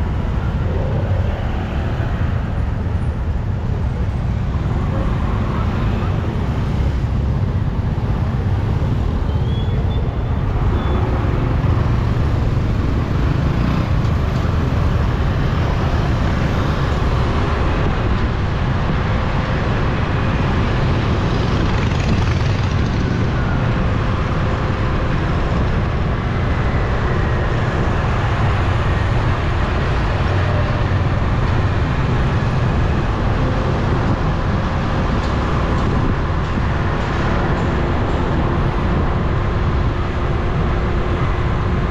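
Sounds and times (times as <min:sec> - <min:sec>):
motorbike engines rumbling: 0:00.0 - 0:41.9
road noise: 0:00.0 - 0:41.9.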